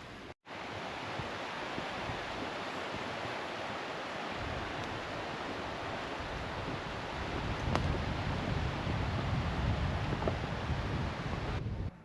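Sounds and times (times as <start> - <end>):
mountain stream rushing: 0.0 - 11.6
wind rumbling on microphone: 0.0 - 12.0.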